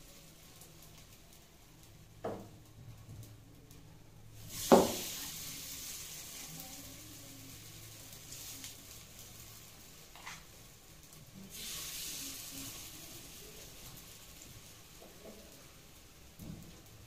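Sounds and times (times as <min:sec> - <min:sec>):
batter sizzling in oil: 0:00.0 - 0:17.0.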